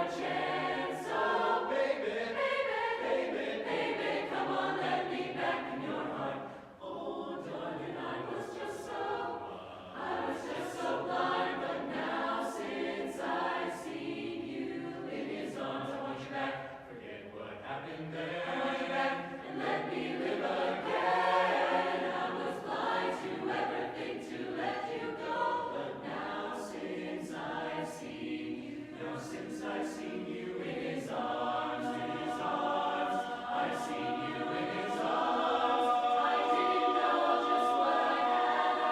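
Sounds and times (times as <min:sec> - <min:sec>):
chorus singing a cappella: 0:00.0 - 0:38.9.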